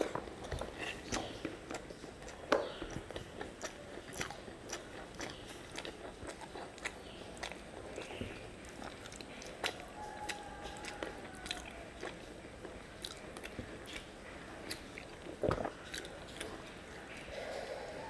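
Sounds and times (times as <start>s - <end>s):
person chewing: 0.0s - 18.0s.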